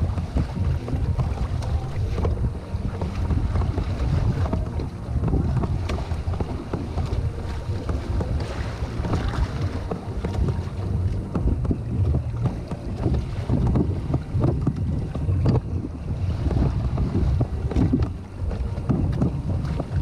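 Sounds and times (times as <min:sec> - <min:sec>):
surf splashing against hull: 0:00.0 - 0:20.0
wind buffeting microphone: 0:00.0 - 0:20.0.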